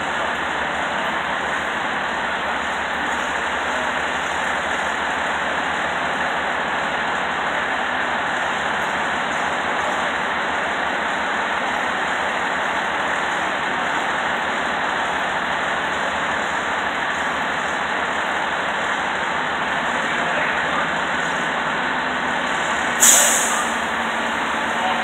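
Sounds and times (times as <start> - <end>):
city traffic: 0.0 - 25.0
fire truck engine running: 0.0 - 25.0.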